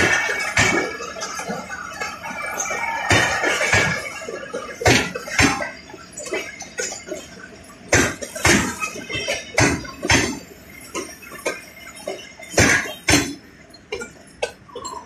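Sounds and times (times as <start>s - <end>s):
train wheels clacking over rail joints: 0.0s - 14.6s.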